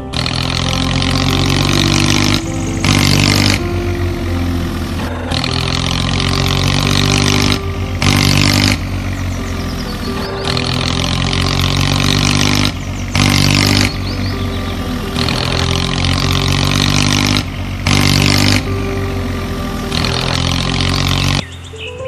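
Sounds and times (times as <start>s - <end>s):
vehicle engine revving: 0.0s - 21.9s.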